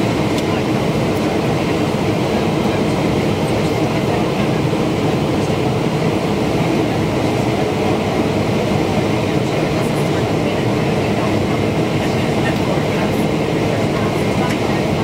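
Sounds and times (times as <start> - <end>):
engine and airflow rumble: 0.0 - 15.0.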